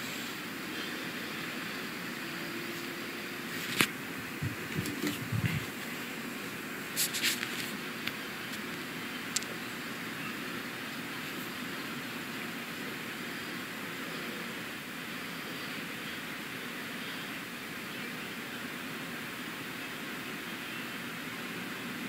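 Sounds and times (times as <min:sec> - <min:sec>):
dvd player whirring hiss: 0:00.0 - 0:22.0.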